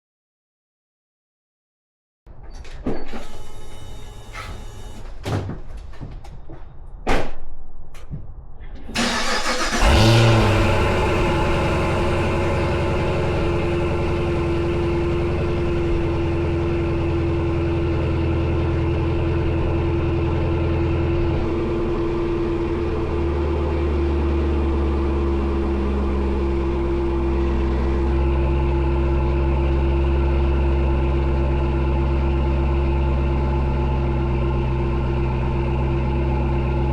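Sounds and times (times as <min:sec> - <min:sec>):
car engine starting and idling: 0:03.2 - 0:05.2, 0:08.8 - 0:36.9.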